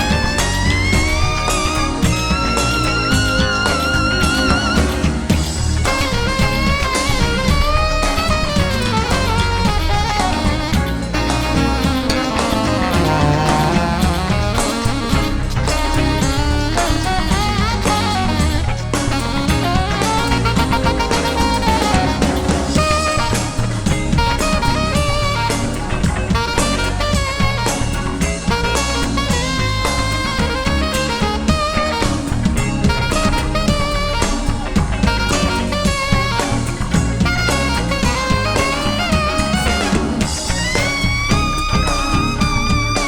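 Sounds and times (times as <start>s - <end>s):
drum kit beat: 0.0s - 43.0s
lead instrument gliding melody: 0.0s - 43.0s.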